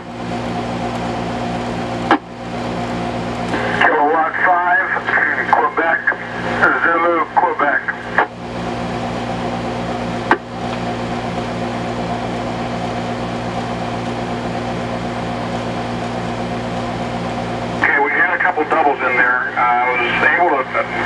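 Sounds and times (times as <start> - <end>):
radio speaker hum and hiss: 0.8 - 21.0.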